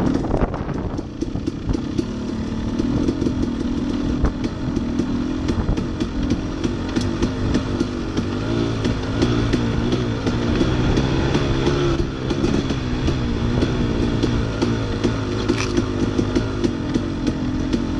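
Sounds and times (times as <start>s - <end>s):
bike rattling ticks and knocks: 0.0s - 17.9s
dirt bike engine running: 0.0s - 17.9s.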